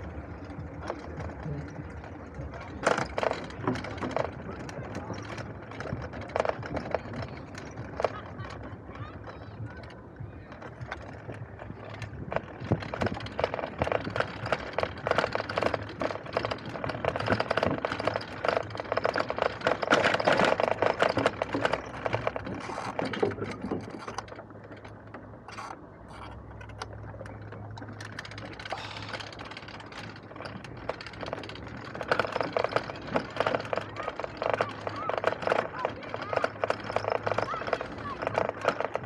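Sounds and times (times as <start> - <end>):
bike rattling over wooden planks: 0.0 - 39.0.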